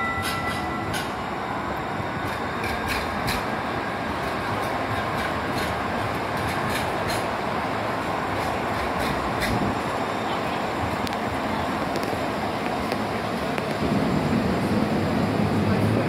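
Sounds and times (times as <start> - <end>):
tram wheels on rails: 0.0 - 16.0.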